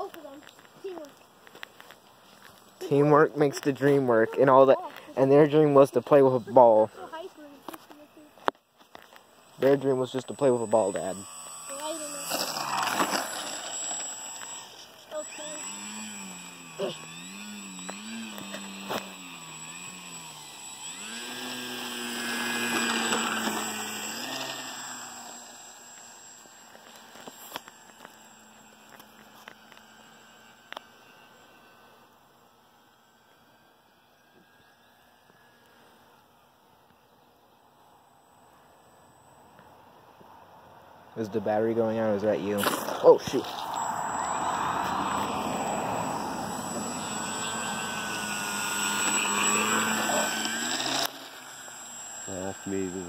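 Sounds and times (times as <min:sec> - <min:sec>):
model plane motor humming: 0:00.0 - 0:39.7, 0:42.1 - 0:53.0.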